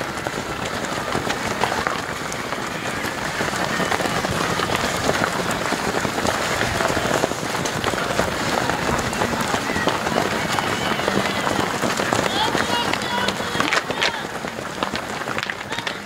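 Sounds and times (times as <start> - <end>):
runners' footsteps on grass: 0.0 - 16.0.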